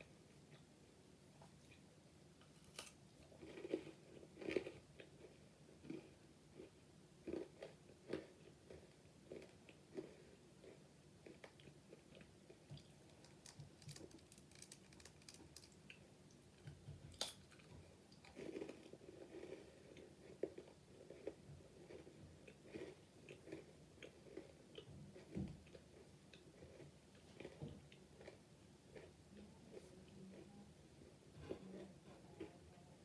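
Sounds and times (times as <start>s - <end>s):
chewing crunchy pretzel: 2.5s - 32.6s.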